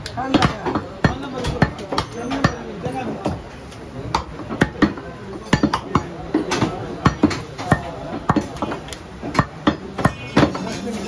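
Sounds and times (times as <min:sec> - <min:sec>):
knife chopping meat on wood: 0:00.1 - 0:03.4, 0:04.1 - 0:10.7.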